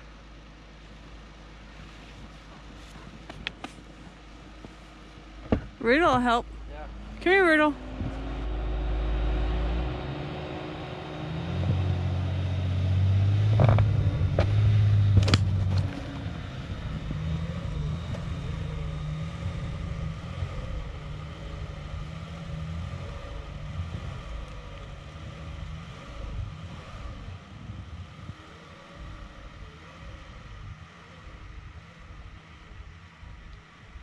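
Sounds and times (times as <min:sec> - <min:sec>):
van engine straining in snow: 0:00.0 - 0:34.0.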